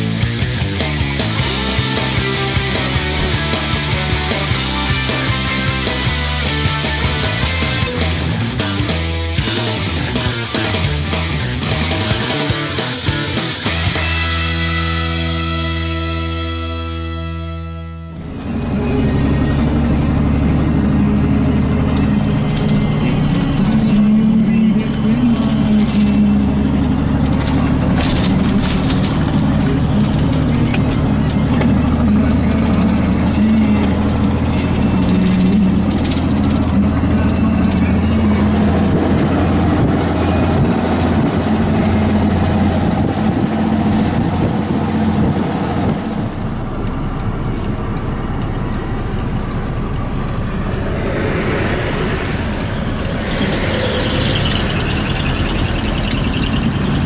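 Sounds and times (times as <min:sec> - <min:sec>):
rising whine: 0:00.0 - 0:57.0
road noise: 0:00.0 - 0:57.0
truck engine running: 0:00.0 - 0:57.0.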